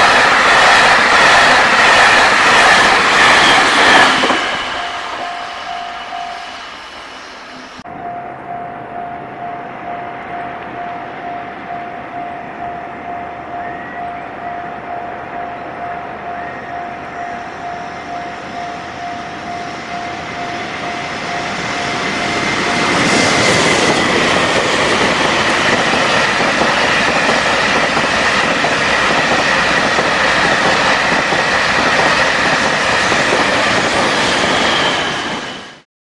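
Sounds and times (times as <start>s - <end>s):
train wheels rumbling on rails: 0.0s - 7.9s, 10.2s - 35.8s
level-crossing warning bell: 0.0s - 35.8s.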